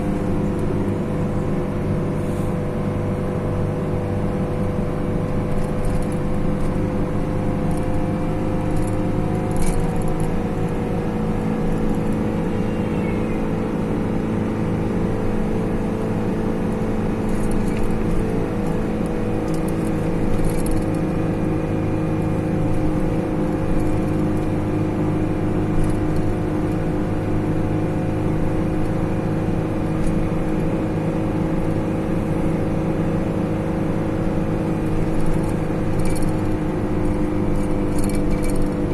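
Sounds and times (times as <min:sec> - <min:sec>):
road noise: 0:00.0 - 0:38.9
vehicle engine humming: 0:00.0 - 0:38.9.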